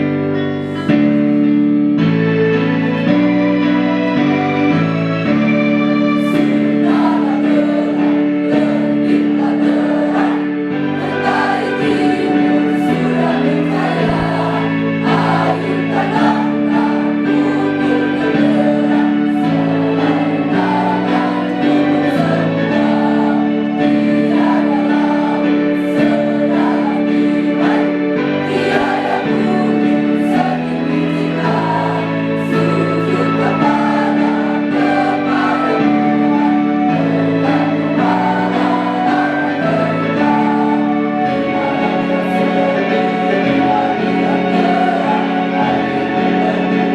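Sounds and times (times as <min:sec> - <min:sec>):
electronic keyboard chords: 0:00.0 - 0:46.9
choir singing in unison: 0:06.0 - 0:46.9.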